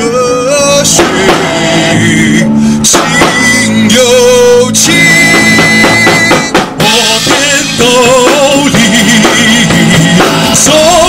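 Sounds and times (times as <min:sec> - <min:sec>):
live rock band music: 0:00.0 - 0:11.0.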